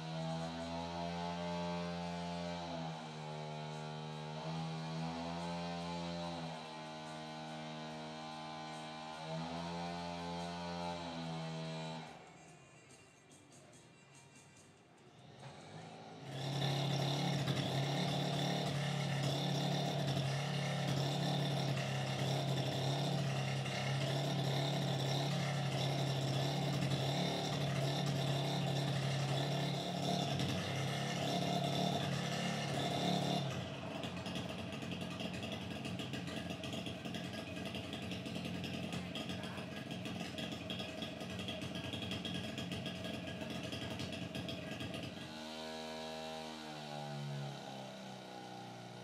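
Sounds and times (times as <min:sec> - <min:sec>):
motor running steadily: 0:00.0 - 0:12.3, 0:15.2 - 0:49.0
quiet rough noise: 0:00.0 - 0:47.7.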